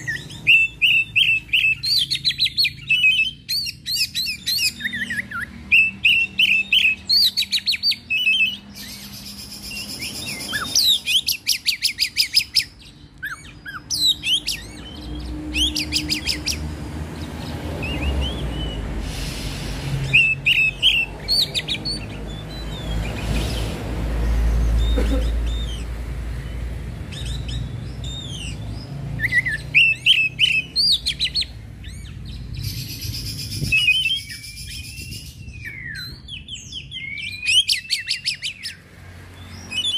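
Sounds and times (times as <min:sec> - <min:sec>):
bird singing whistled phrases and trills: 0:00.0 - 0:16.6, 0:17.4 - 0:18.9, 0:20.0 - 0:23.4, 0:24.2 - 0:38.8, 0:39.4 - 0:39.9.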